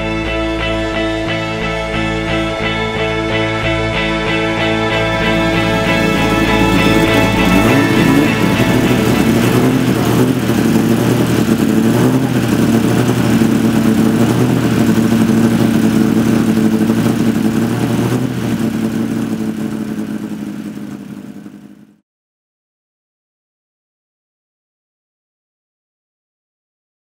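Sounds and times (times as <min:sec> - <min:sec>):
sports car engine running: 0:00.3 - 0:22.0.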